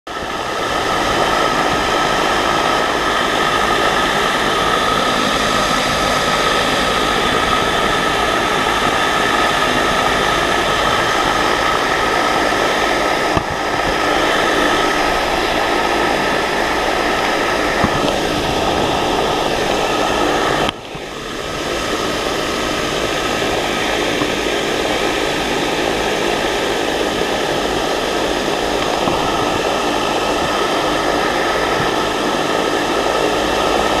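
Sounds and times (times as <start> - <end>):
faint fan whine: 0.1 - 34.0
large fan rushing air: 0.1 - 34.0.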